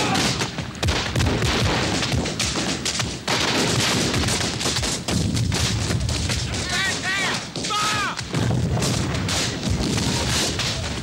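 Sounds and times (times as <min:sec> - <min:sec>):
explosions: 0:00.0 - 0:11.0
gunfire: 0:00.0 - 0:11.0.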